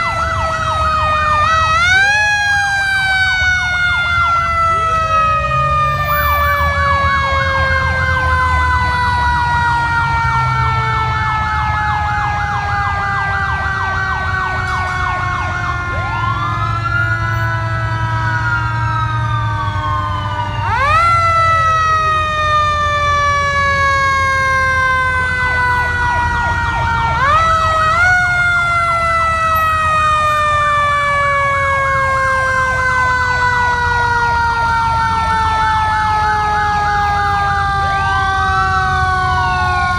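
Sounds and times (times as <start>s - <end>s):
fire truck sirens: 0.0s - 39.9s
truck engines rumbling: 0.0s - 39.9s.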